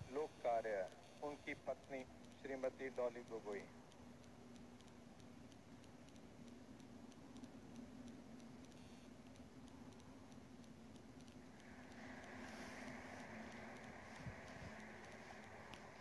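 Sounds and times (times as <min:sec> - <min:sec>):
faint regular ticks: 0:00.0 - 0:16.0
faint steady hum: 0:00.0 - 0:16.0
light hiss: 0:00.0 - 0:16.0.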